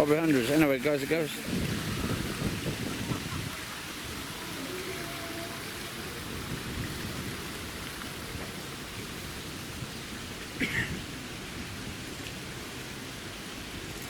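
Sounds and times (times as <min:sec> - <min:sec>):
splashing water rushing: 0:00.0 - 0:14.0.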